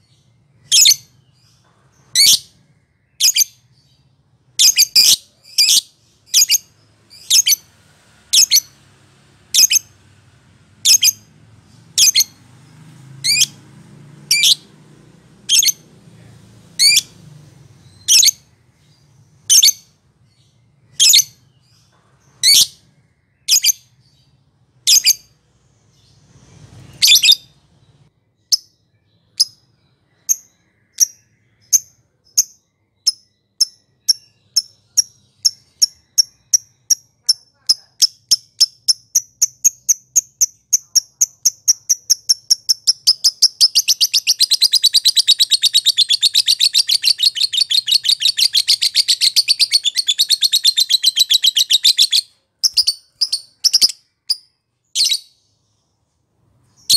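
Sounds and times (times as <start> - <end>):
lovebird chirping: 0.0 - 14.8, 15.4 - 56.9.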